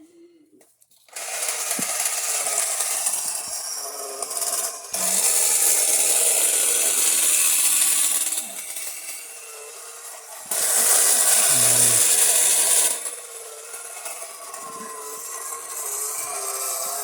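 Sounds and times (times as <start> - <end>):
toy car motor whirring: 0.6 - 17.0.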